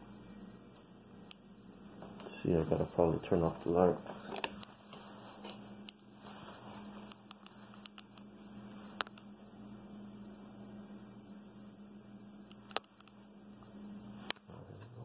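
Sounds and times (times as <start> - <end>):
faint pulsing electrical hum: 0.0 - 15.0.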